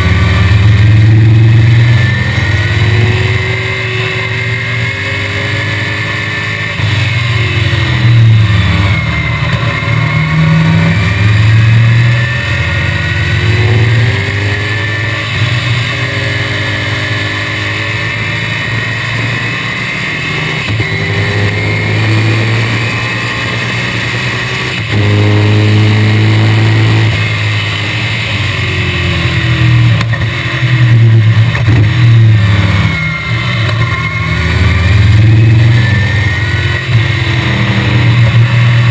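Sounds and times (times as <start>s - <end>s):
race car engine shifting gears: 0.0s - 38.9s.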